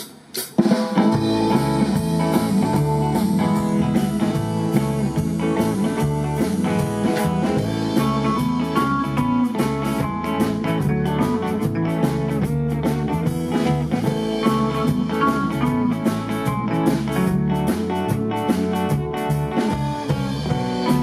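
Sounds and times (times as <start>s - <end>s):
live rock band playing: 0.0s - 21.0s
steady drum beat: 0.0s - 21.0s.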